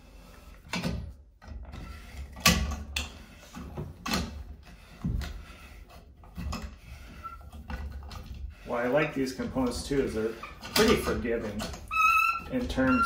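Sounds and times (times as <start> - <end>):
metal spout knocking and scraping: 0.6 - 13.0.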